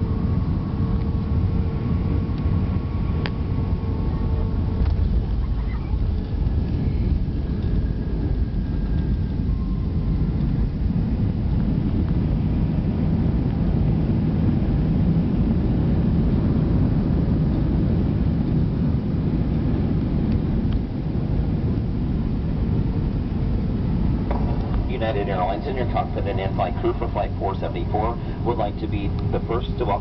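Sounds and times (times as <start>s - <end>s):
jet airliner cabin rumble: 0.0s - 30.0s.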